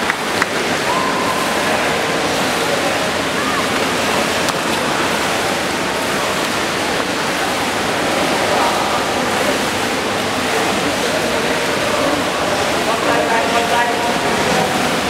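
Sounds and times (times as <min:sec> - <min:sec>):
swimmers splashing in pool: 0:00.0 - 0:15.0.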